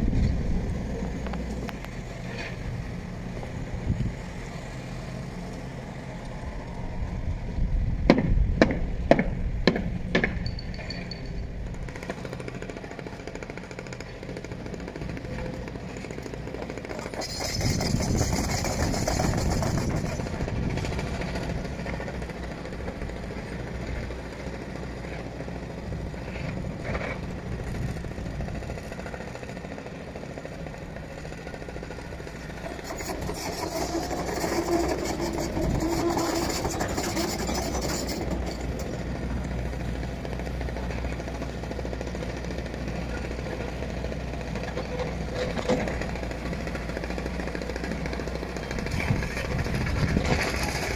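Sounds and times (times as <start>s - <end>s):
construction machinery engine: 0.0s - 50.9s.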